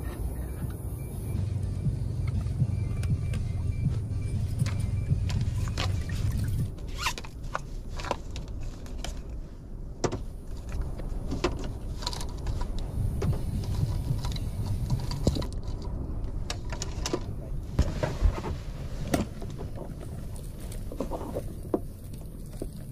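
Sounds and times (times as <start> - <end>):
wind rumbling on microphone: 0.0 - 22.9.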